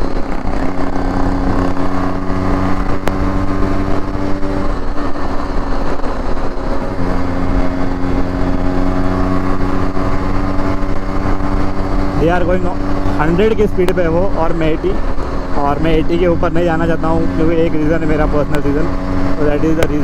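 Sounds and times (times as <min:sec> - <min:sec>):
two-stroke motorcycle engine cruising: 0:00.0 - 0:20.0.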